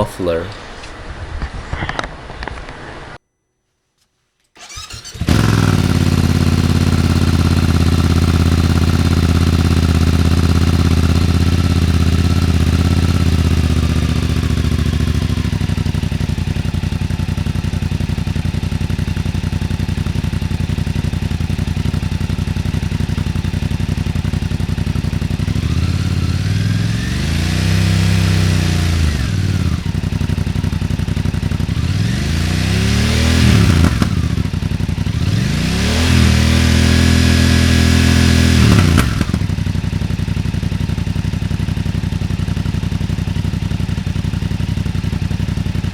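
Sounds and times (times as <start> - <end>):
motorcycle engine idling: 4.6 - 45.9
motorcycle engine revving: 4.6 - 45.9.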